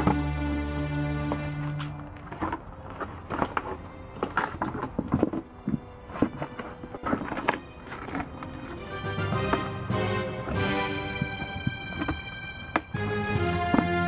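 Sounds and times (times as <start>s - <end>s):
plastic pot scraping on concrete: 1.2s - 14.0s.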